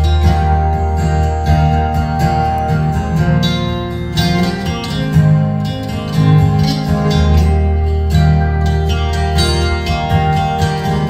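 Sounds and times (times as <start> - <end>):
acoustic guitars playing folk: 0.0 - 11.0.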